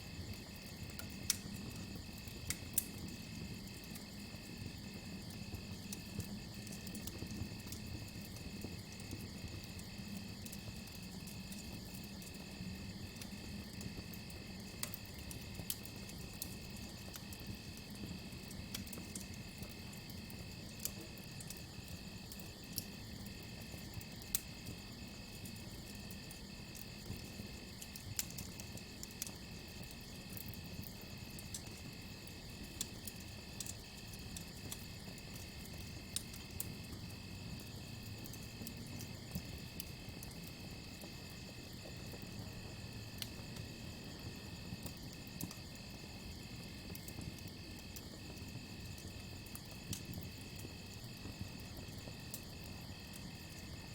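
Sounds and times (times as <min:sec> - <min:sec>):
campfire crackling and popping: 0:00.2 - 0:32.0, 0:32.6 - 0:53.9.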